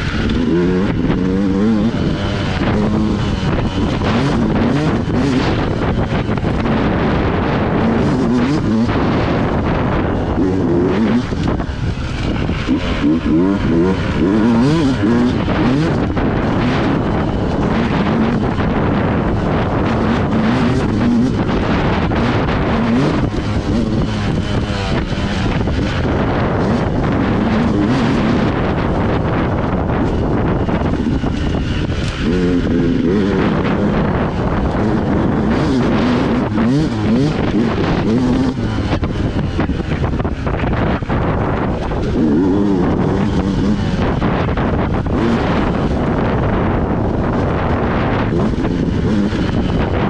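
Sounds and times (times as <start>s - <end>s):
dirt bike engine revving: 0.0s - 50.0s
wind buffeting microphone: 0.0s - 50.0s.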